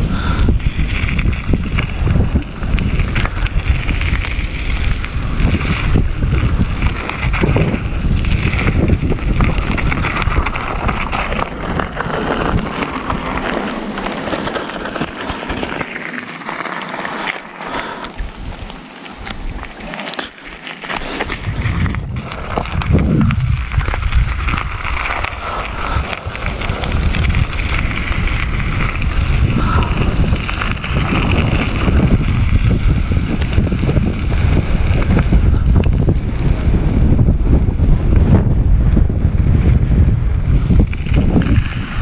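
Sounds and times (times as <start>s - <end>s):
bike rattling: 0.0s - 42.0s
wind buffeting on microphone: 0.0s - 42.0s
tyres crunching over gravel: 0.6s - 36.7s.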